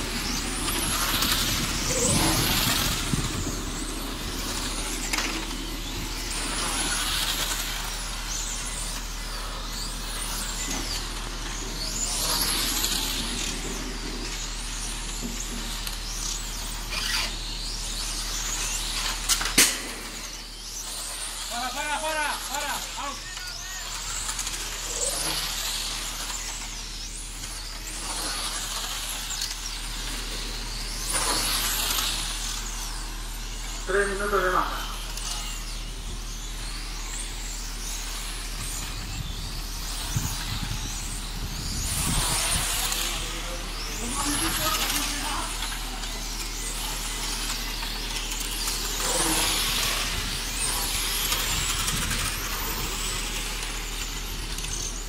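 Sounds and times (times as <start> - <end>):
electric car motors whining: 0.0 - 55.0.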